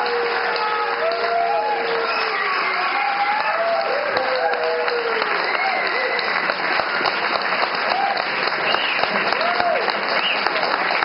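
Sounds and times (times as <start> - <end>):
people whooping and calling out: 0.0 - 6.6, 7.8 - 10.5
audience applauding: 0.0 - 11.0.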